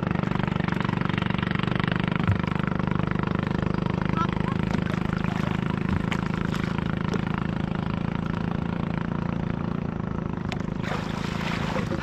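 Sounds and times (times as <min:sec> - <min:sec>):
small boat engine idling: 0:00.0 - 0:12.0
water splashing and sloshing: 0:00.0 - 0:12.0.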